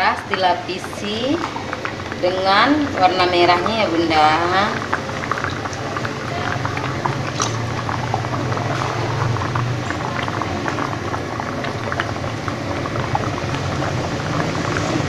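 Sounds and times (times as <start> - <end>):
batter pouring: 0.0 - 15.0
water boiling and bubbling: 0.0 - 15.0.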